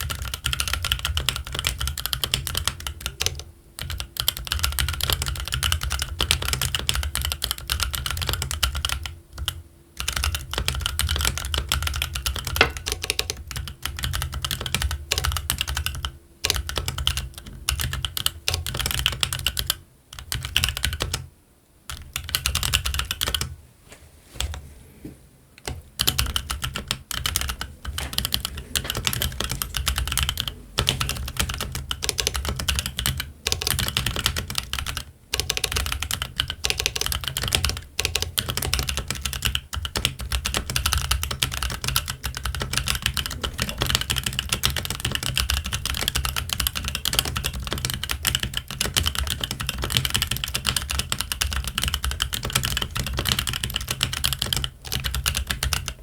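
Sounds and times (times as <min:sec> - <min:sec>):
mechanical keyboard typing: 0:00.0 - 0:21.3, 0:21.9 - 0:23.5, 0:25.6 - 0:56.0.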